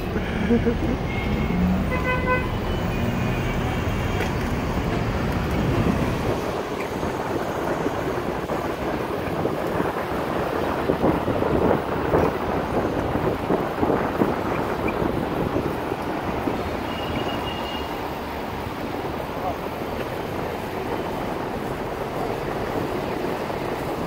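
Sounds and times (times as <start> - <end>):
road and traffic noise: 0.0 - 24.0
wind buffeting microphone: 3.9 - 24.0.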